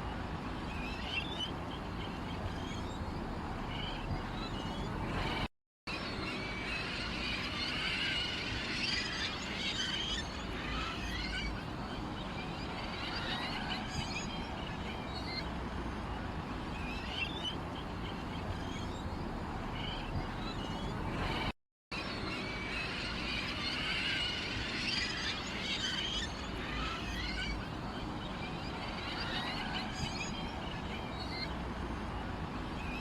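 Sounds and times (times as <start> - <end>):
songbirds chirping and twittering: 0.0 - 33.0.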